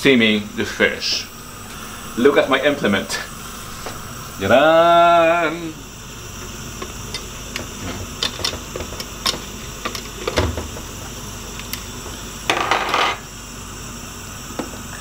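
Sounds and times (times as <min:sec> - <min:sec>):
boiling pot hiss: 0:00.0 - 0:15.0.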